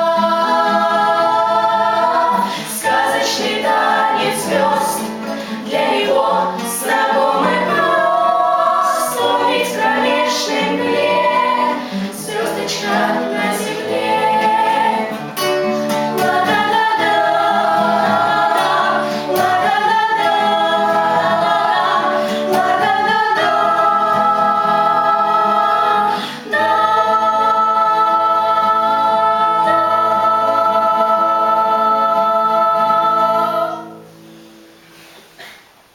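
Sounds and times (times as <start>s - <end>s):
children's choir singing: 0.0s - 34.2s.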